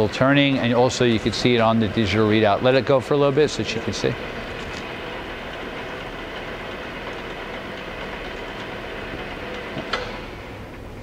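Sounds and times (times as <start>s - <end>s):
milling machine feed hum: 0.0s - 11.0s.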